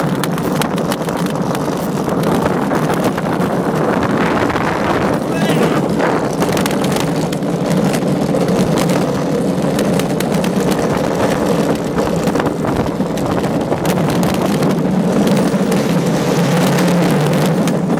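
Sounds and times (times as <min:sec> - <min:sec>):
sled wheels rumbling on track: 0:00.0 - 0:17.9.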